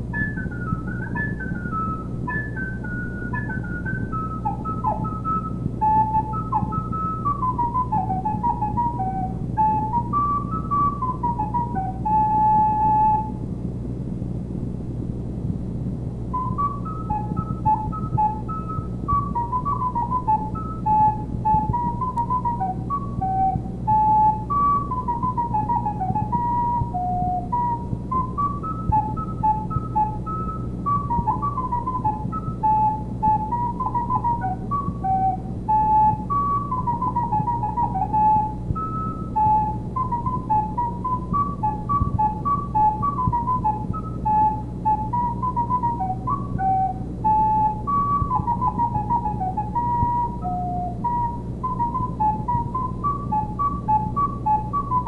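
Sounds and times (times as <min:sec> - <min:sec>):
recorder playing lively melody: 0:00.0 - 0:13.4, 0:16.3 - 0:55.0
low hum: 0:00.0 - 0:55.0.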